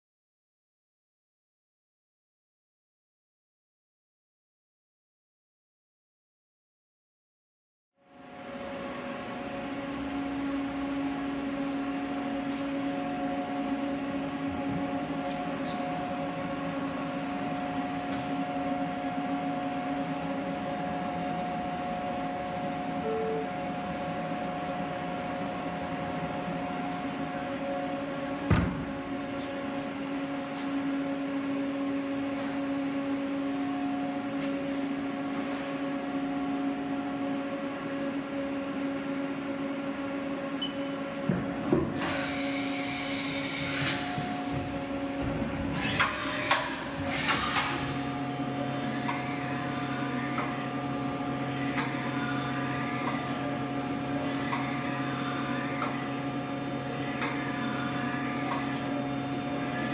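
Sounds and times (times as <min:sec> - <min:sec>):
high machine whine: 0:08.1 - 0:59.9
milling machine hum: 0:08.4 - 0:34.4, 0:35.9 - 0:59.9.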